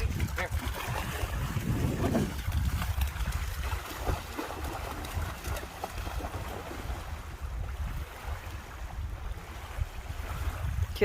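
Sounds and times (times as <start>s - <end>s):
water lapping and splashing: 0.0s - 11.0s
wind rumble on microphone: 0.0s - 11.0s.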